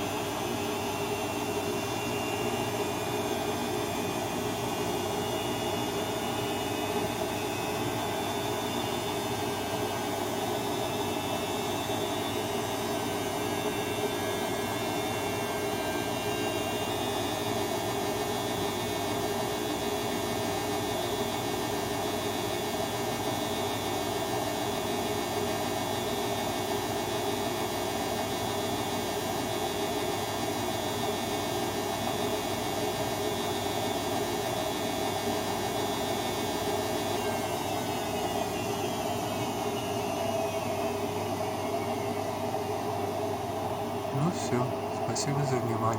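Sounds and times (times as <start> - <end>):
washing machine motor hum: 0.0 - 45.9
washing machine whine: 0.0 - 45.9.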